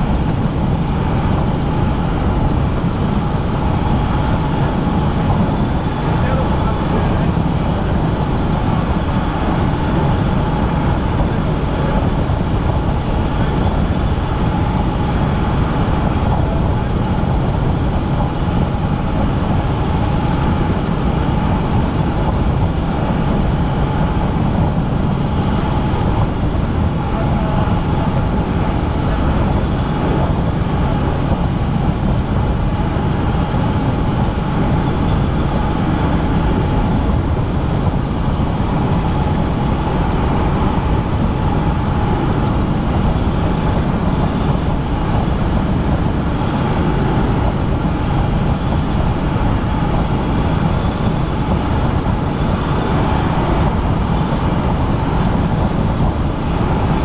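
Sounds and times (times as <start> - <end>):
helicopter rotor and engine: 0.0 - 57.0
high whine: 0.0 - 57.0.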